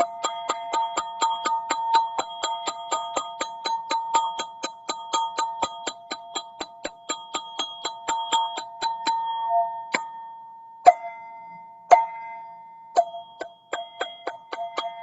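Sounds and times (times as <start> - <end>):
bell-like tube strikes ringing: 0.0 - 15.0.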